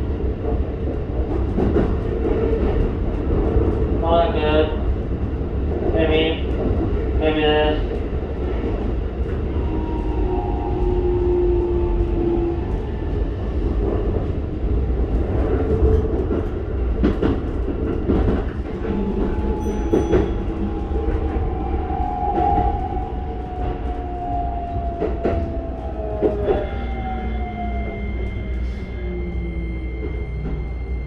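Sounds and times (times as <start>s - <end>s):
train running rumble: 0.0s - 31.0s.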